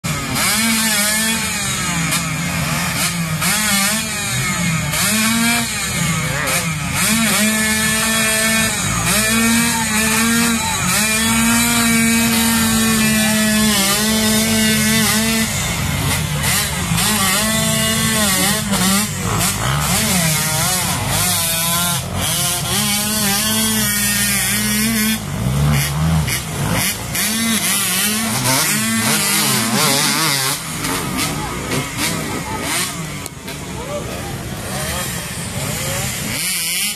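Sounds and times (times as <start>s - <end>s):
motorcycle engines revving: 0.0s - 36.9s.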